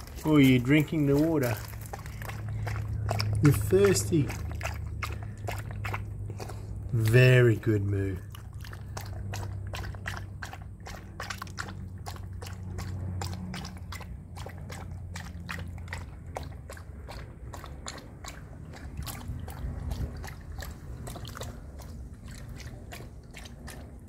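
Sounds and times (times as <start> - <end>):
dog lapping water: 0.0 - 24.0
low steady hum: 0.0 - 24.0.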